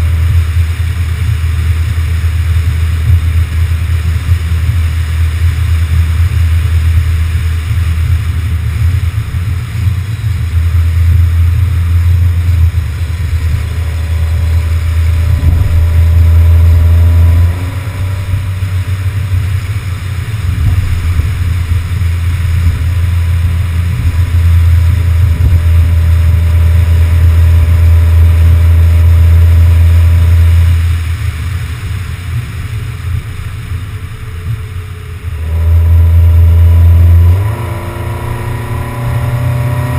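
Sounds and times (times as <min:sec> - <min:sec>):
faint engine hum: 0:00.0 - 0:39.9
road noise: 0:00.0 - 0:39.9
wind rumble on microphone: 0:00.0 - 0:39.9.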